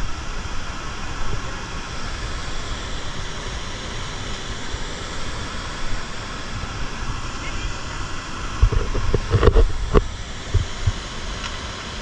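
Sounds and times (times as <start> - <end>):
wind buffeting microphone: 0.0 - 11.3
river rushing over rapids: 0.0 - 12.0.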